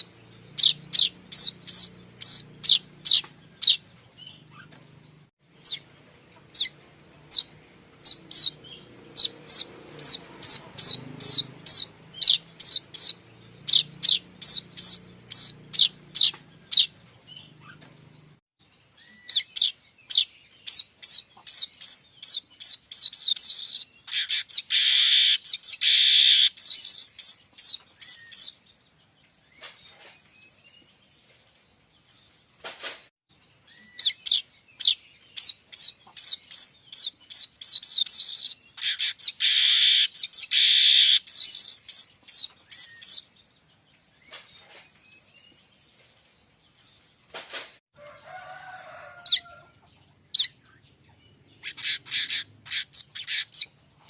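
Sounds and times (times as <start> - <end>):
weaver bird chirping song: 0.0 - 32.7, 33.3 - 47.4, 48.6 - 54.0.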